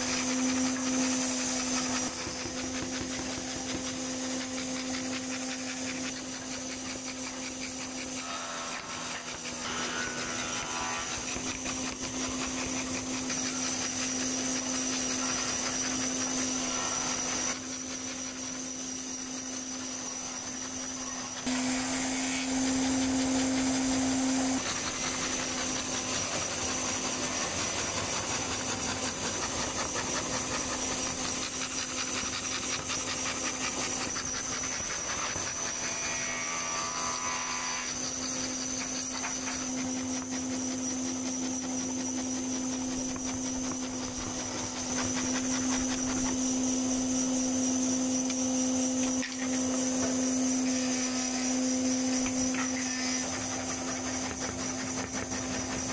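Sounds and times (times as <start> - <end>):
band saw cutting wood: 0.0 - 55.9.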